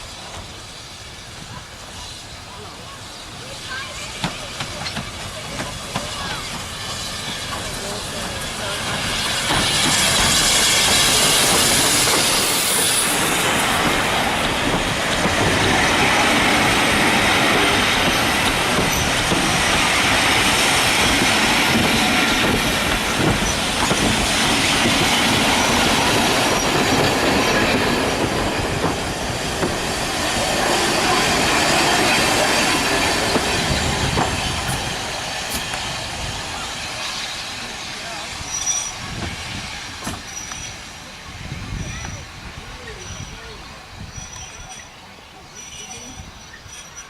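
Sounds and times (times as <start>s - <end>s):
railway carriage wheels rumbling: 0.0s - 47.0s.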